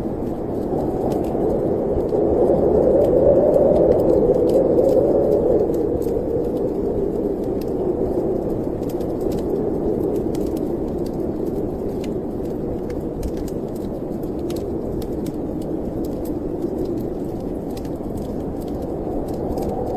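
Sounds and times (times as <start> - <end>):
snowstorm wind blowing: 0.0 - 19.9
wood fire crackling: 0.0 - 19.9.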